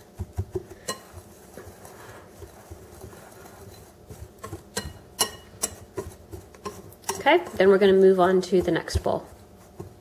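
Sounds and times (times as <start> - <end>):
whisk clicking against bowl: 0.0 - 10.0
whisk stirring flour: 0.0 - 10.0.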